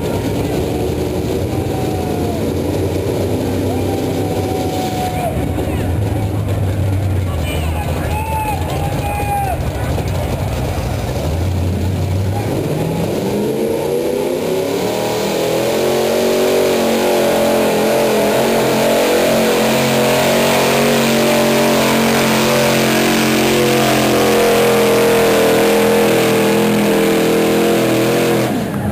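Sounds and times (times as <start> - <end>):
truck engine at high revs: 0.0 - 28.9.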